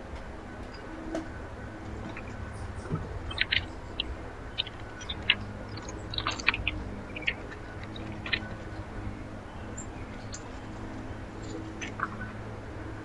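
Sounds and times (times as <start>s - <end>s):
low steady hum: 0.0s - 13.0s
bird chips and clicks: 1.9s - 12.4s.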